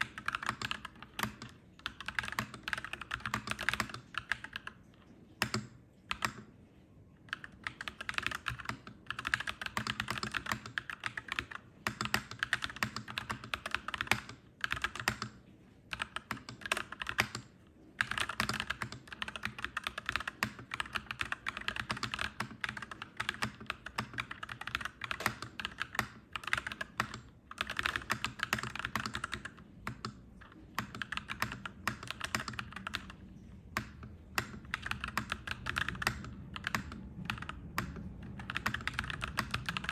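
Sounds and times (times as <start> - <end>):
mechanical keyboard typing: 0.0 - 6.5, 7.2 - 39.9.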